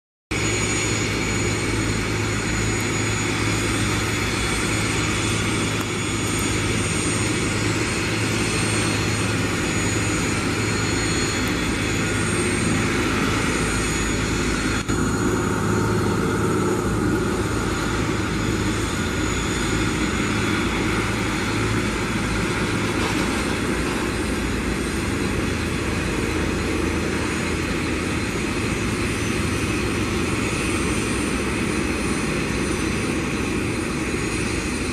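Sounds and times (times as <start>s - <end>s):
high-pitched jet whine: 0.3s - 34.9s
jet engines rumbling: 0.3s - 34.9s.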